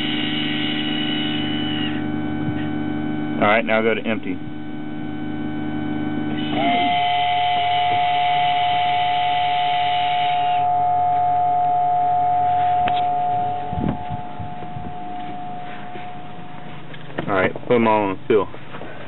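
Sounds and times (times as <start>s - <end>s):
valve motor whirring: 0.0s - 17.3s
pump humming and whining: 0.0s - 19.0s.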